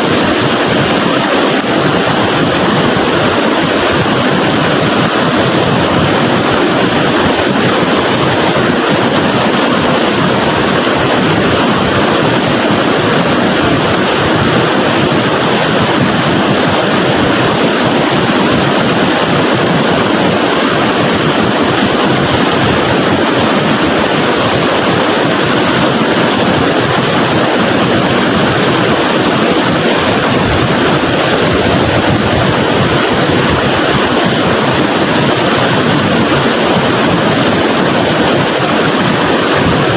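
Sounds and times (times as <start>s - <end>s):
river floodwater rushing: 0.0s - 39.9s.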